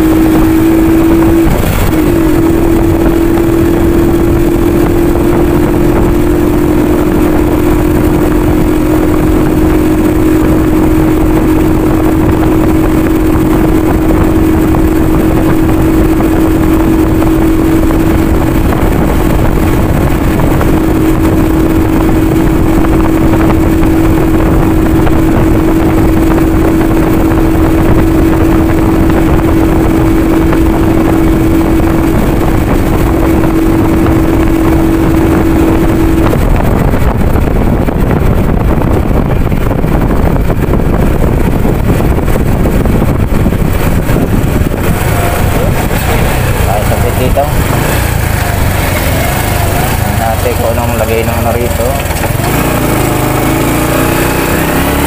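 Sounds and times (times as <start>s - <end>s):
motorcycle engine: 0.0s - 55.0s
wind buffeting microphone: 0.0s - 55.0s.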